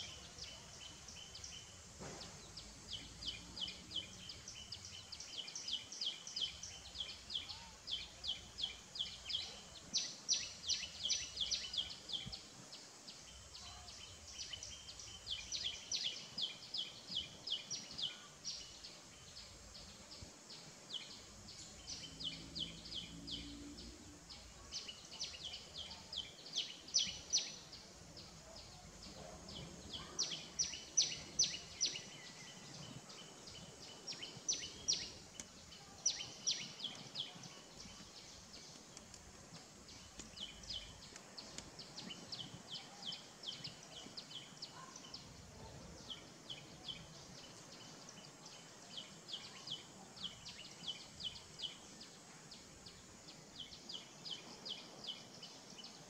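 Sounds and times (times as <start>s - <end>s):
bird chirping: 0.0s - 56.0s
faint outdoor hiss: 0.0s - 56.0s.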